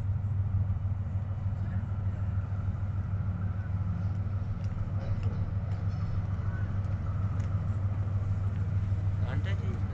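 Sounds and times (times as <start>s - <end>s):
locomotive rumbling: 0.0s - 9.9s.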